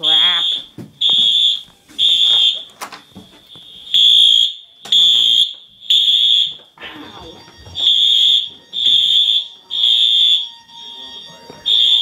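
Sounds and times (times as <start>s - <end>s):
fire alarm horn blasts: 0.0s - 2.7s, 3.5s - 6.6s, 7.3s - 12.0s.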